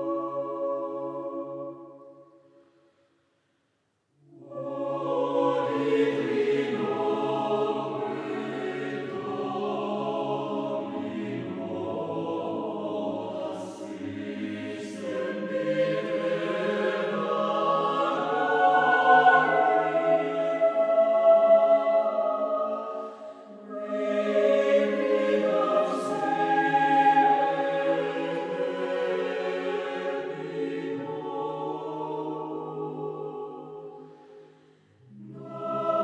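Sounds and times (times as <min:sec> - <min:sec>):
choir singing slow chords: 0:00.0 - 0:03.4, 0:04.2 - 0:36.0.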